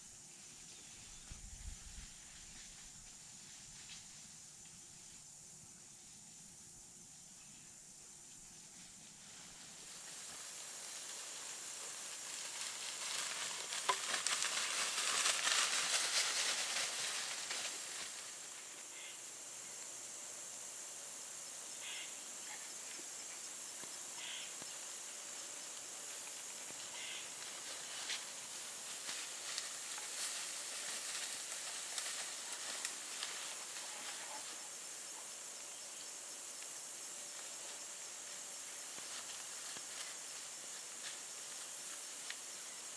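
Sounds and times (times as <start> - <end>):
steady high hiss: 0.0 - 42.9.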